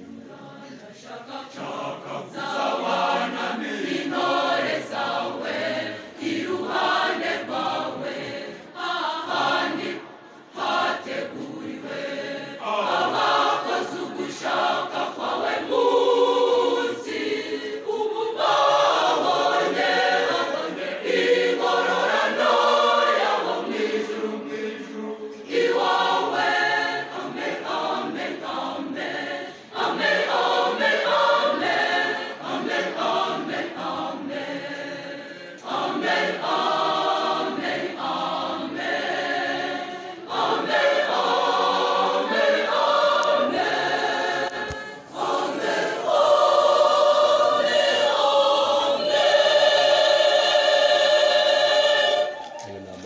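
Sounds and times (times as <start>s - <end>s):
choir singing a hymn: 0.0s - 52.5s.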